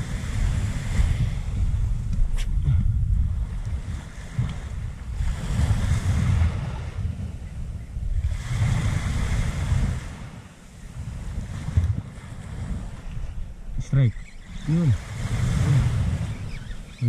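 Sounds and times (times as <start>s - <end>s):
waves washing onto beach: 0.0s - 17.0s
wind buffeting microphone: 0.0s - 17.0s.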